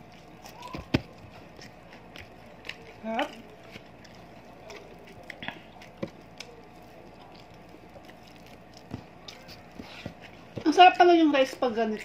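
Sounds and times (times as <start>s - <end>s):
chewing: 0.0s - 10.6s.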